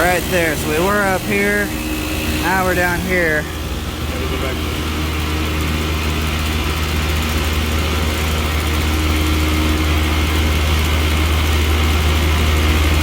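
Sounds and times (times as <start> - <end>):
compressor low hum: 0.0 - 13.0
condenser fans rushing: 0.0 - 13.0.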